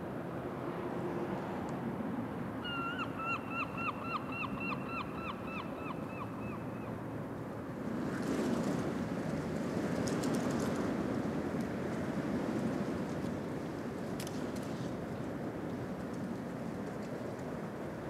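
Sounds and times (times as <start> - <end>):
outdoor ambience rush: 0.0 - 18.0.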